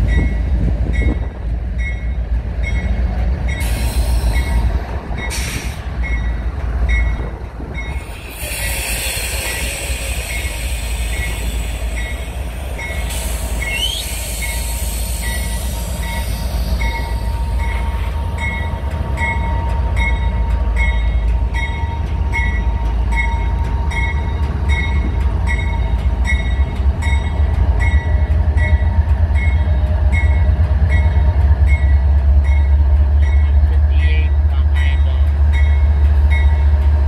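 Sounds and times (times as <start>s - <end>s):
locomotive bell ringing: 0.0s - 5.4s, 6.0s - 36.7s
diesel locomotives rumbling: 0.0s - 37.0s.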